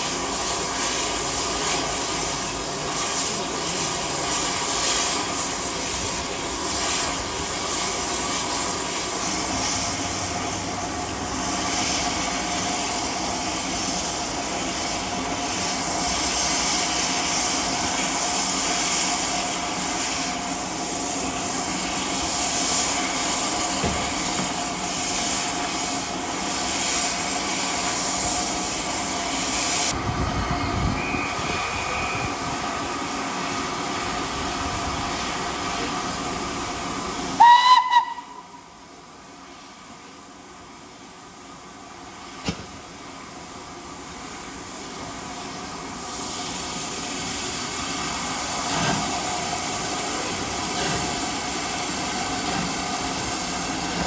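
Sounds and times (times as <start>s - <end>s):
train running on rails: 0.0s - 54.0s.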